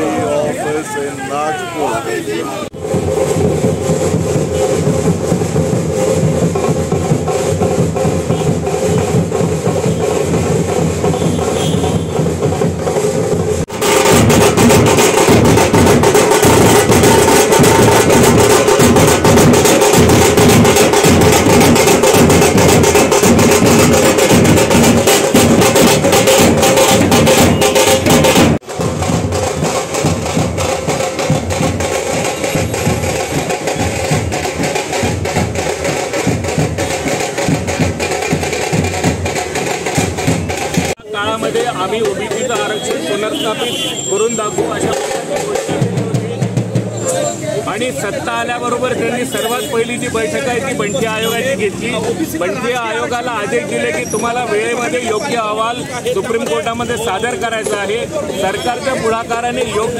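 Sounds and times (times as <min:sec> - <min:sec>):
street drummers drumming: 0:00.0 - 0:59.9.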